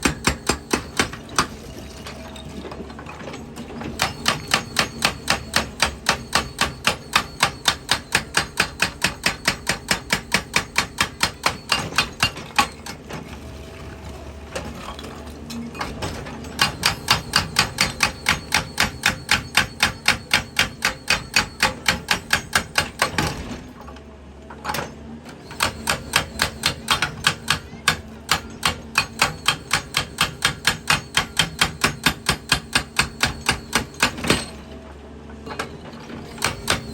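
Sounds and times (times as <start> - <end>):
hydraulic breaker hammering rock: 0.0 - 1.7, 3.8 - 13.1, 15.8 - 23.7, 25.4 - 34.8, 35.4 - 36.9.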